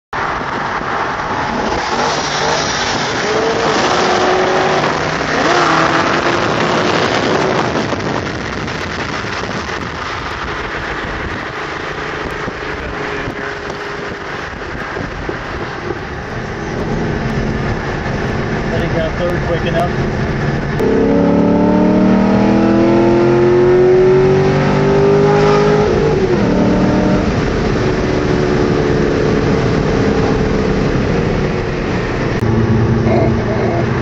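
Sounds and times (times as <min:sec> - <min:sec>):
road and wind noise: 0:00.1 - 0:34.0
car engine pulling hard: 0:00.2 - 0:34.0.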